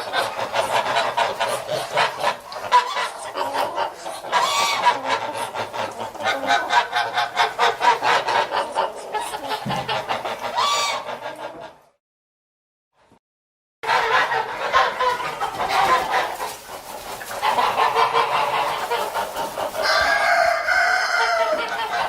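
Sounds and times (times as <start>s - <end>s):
geese honking and cackling: 0.0s - 11.9s, 13.8s - 22.0s.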